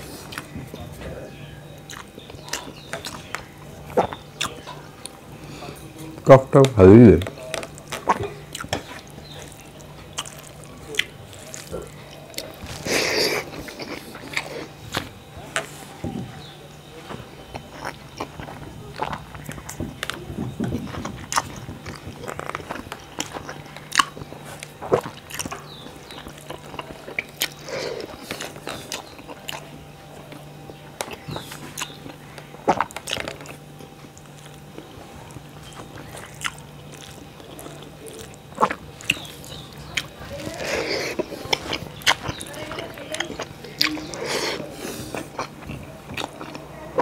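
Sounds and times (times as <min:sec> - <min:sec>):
man chewing: 0:00.0 - 0:47.0
mouth smacking: 0:06.6 - 0:47.0.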